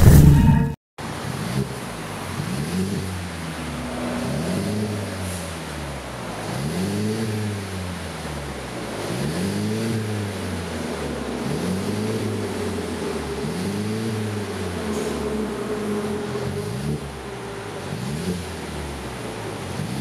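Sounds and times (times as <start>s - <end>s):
car engine revving and idling: 1.0s - 20.0s.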